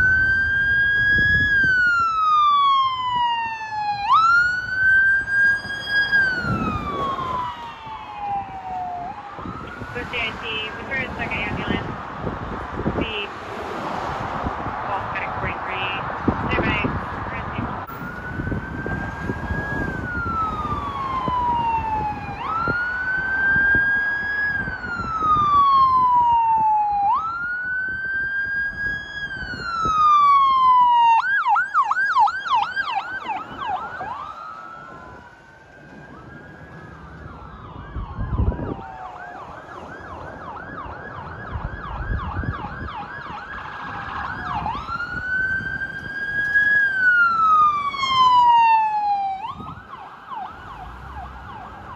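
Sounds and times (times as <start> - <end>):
ambulance siren: 0.0 - 51.9
vehicle engine and road noise: 0.0 - 51.9.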